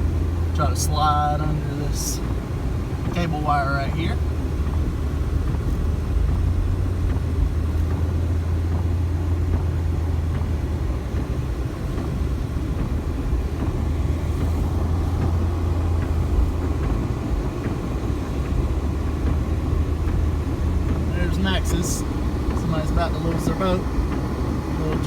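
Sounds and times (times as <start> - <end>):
engine and road noise in car: 0.0 - 25.0.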